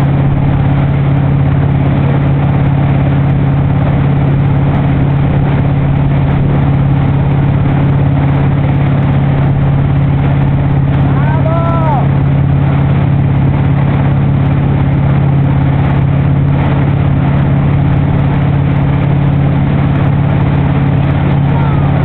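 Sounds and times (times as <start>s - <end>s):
motorboat engine humming: 0.0s - 22.0s
water rushing from wake: 0.0s - 22.0s.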